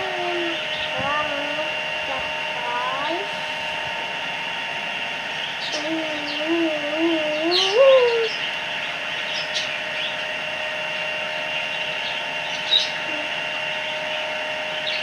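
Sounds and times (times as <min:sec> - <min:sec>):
noisy background: 0:00.0 - 0:15.0
two-tone steady hum: 0:00.0 - 0:15.0.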